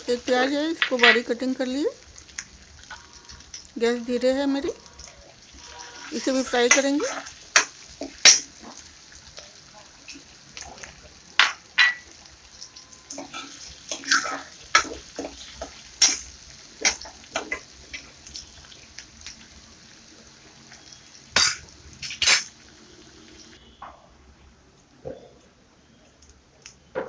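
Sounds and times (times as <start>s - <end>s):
food frying in oil: 0.0s - 27.0s.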